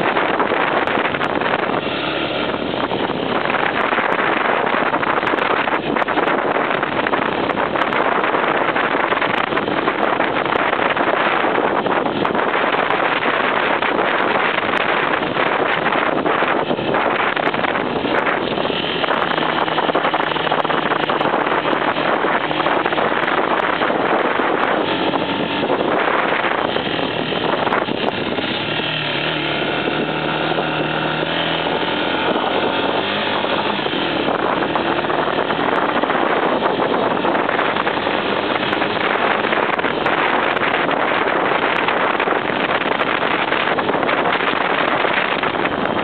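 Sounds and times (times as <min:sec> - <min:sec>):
motorcycle engine under load: 0:00.0 - 0:46.0
wind buffeting microphone: 0:00.0 - 0:46.0.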